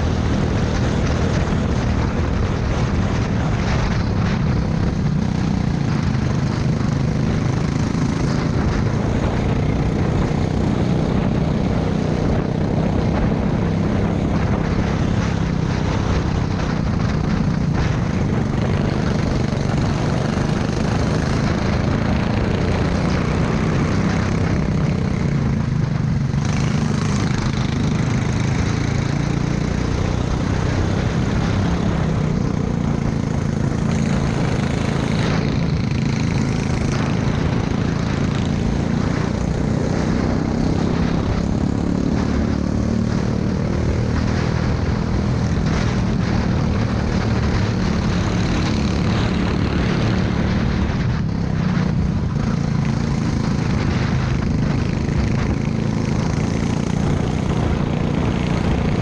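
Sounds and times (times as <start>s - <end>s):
go-kart engine buzzing: 0.0s - 59.0s.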